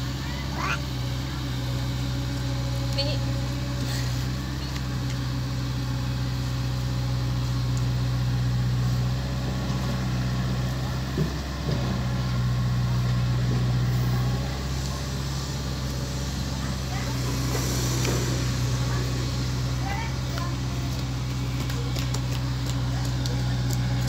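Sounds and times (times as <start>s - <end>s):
excavator diesel engine: 0.0s - 24.0s
truck engine running: 0.0s - 24.0s.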